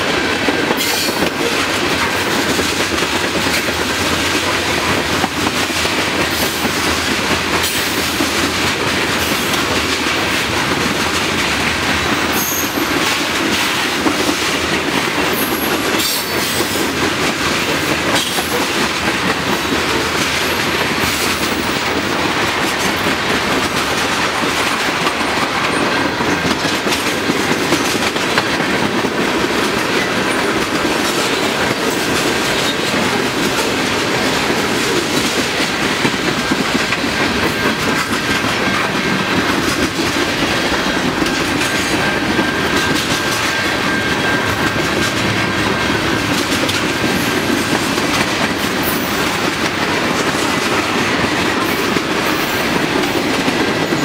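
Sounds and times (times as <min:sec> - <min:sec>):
freight train rumbling past: 0:00.0 - 0:54.0
wheels clacking over rail: 0:00.0 - 0:54.0.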